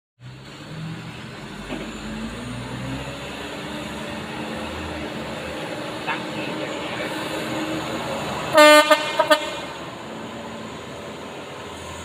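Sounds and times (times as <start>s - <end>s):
low road rumble: 0.2s - 12.0s
truck diesel engine droning: 0.2s - 12.0s.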